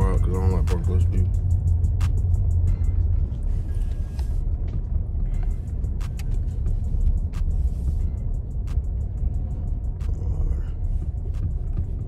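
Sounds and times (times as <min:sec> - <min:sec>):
music beat with high ticks: 0:00.0 - 0:12.0
truck driving rumble: 0:00.0 - 0:12.0.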